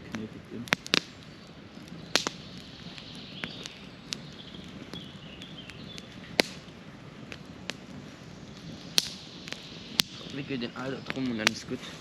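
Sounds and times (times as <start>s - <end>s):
burning wood popping: 0.0s - 12.0s
campfire crackling: 0.0s - 12.0s.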